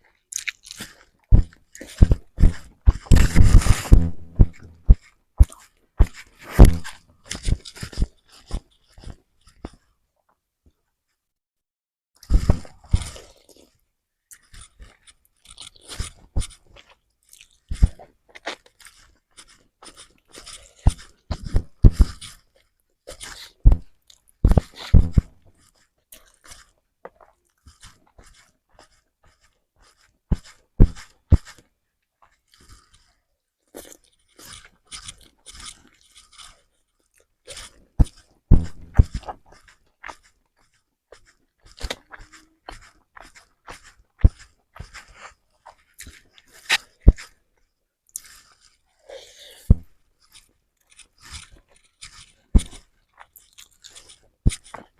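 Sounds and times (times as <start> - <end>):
person chewing with wet mouth sounds: 0.0 - 10.4, 12.2 - 54.9.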